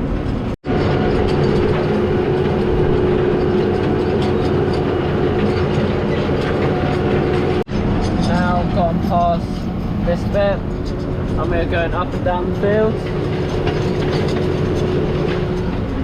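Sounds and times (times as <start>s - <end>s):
tractor engine under load: 0.0s - 16.0s
steady whining tone: 0.1s - 16.0s
faint clicks and rattles: 0.8s - 16.0s.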